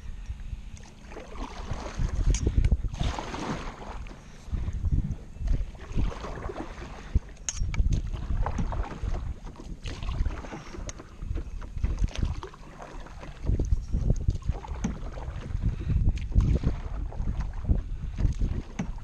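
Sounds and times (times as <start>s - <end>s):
wind rumbling on microphone: 0.0s - 19.0s
paddle splashes and knocks: 0.8s - 4.2s, 5.4s - 19.0s.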